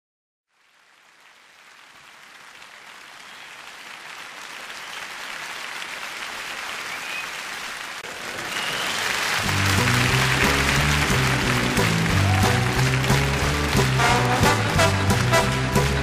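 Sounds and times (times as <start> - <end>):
crowd applause: 0.5 - 16.0.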